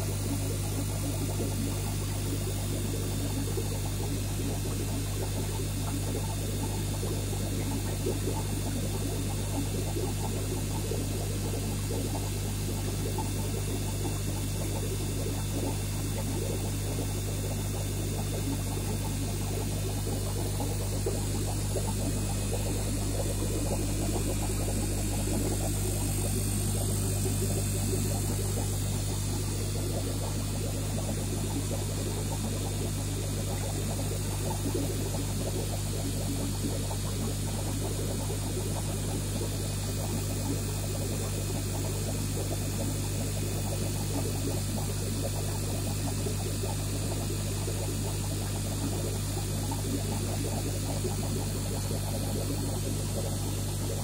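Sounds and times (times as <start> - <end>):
aquarium pump humming: 0.0 - 54.0
water bubbling: 0.0 - 54.0.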